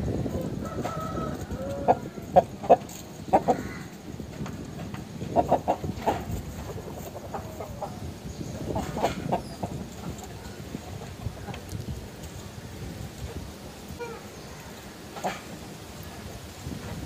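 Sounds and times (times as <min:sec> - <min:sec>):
chickens clucking: 0:00.1 - 0:17.0.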